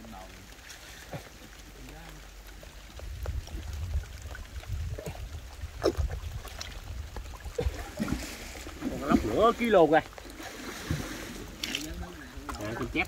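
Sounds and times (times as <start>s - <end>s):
shallow water sloshing: 0.0s - 13.0s
small water splashes: 0.0s - 13.0s.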